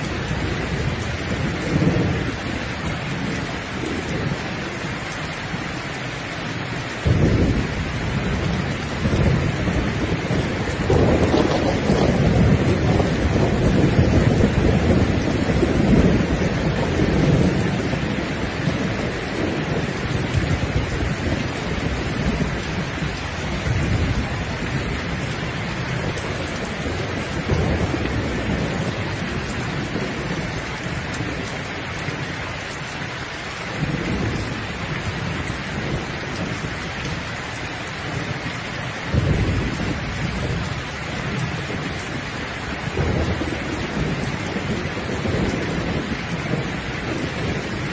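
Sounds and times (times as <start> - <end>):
rolling thunder: 0.0 - 5.7, 6.4 - 47.9
rain hissing: 0.0 - 47.9.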